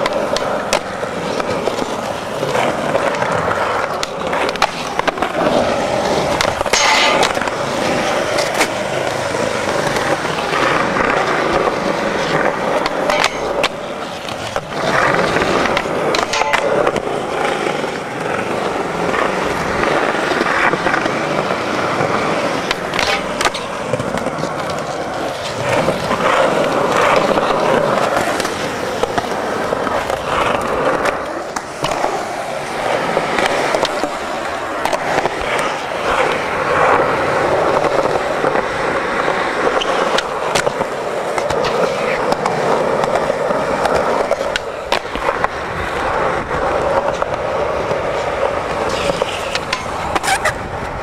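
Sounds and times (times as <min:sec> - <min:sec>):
skateboard clacking on ground: 0:00.0 - 0:51.0
skateboard wheels rolling on concrete: 0:00.0 - 0:51.0.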